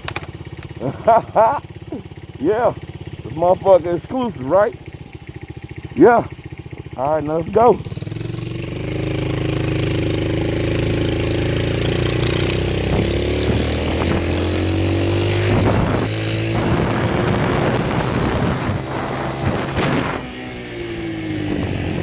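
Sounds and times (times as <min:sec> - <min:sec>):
small motorbike engine: 0:00.0 - 0:22.0.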